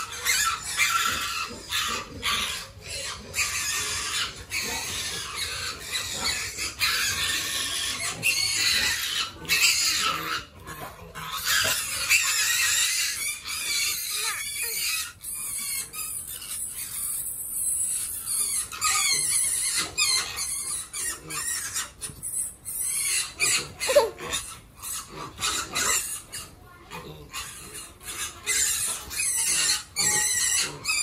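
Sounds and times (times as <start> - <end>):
piglets squealing: 0.0 - 31.0.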